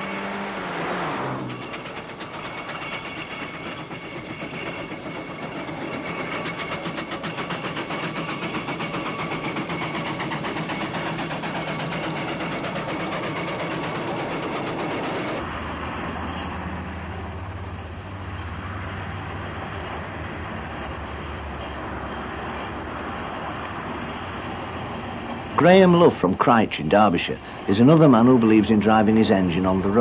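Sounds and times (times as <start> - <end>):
steam engine exhaust beating: 0.0 - 30.0.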